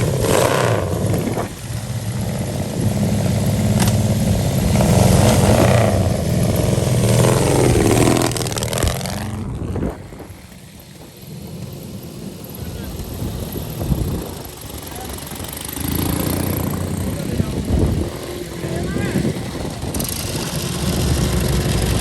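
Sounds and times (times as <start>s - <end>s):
vehicle engine passing by: 0.0s - 10.4s, 12.3s - 22.0s.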